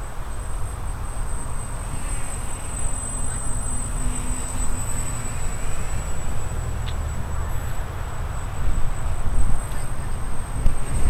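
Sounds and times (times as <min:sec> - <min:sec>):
high-pitched whine: 0:00.0 - 0:11.0
wind buffeting microphone: 0:00.0 - 0:11.0.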